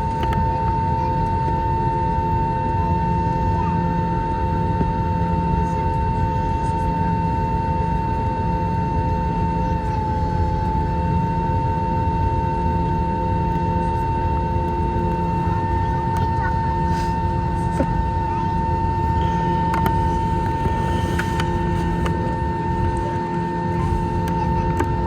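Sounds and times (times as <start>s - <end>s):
jet engine whine: 0.0s - 25.0s.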